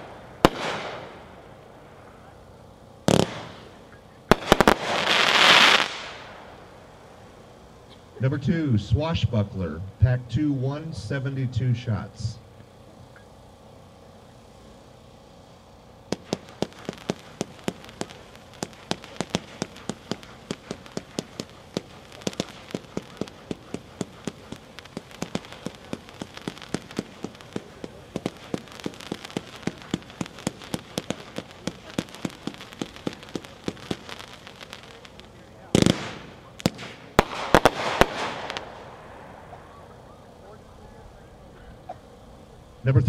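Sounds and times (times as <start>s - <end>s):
fireworks cake firing: 0.0s - 8.2s, 12.6s - 43.0s.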